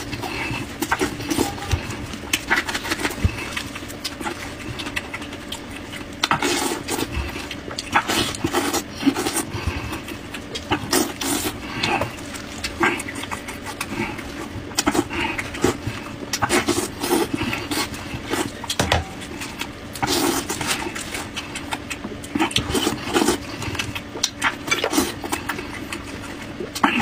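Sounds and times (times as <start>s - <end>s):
man chewing and slurping meat: 0.0s - 27.0s.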